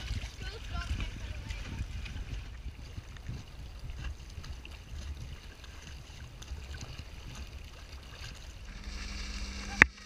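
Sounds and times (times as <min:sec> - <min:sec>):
water lapping along a hull: 0:00.0 - 0:10.0
wind buffeting microphone: 0:00.0 - 0:10.0.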